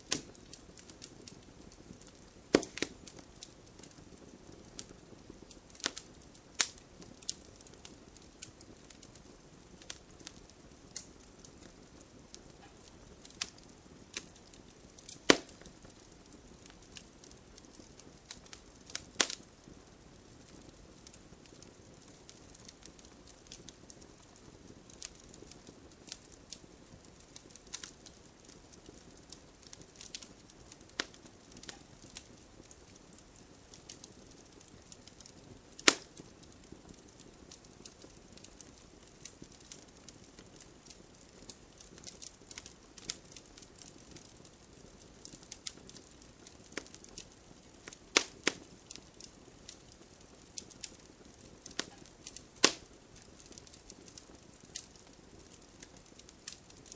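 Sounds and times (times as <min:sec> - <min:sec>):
faint hiss of rain: 0:00.0 - 0:56.9
wood fire crackling and popping: 0:00.0 - 0:56.9.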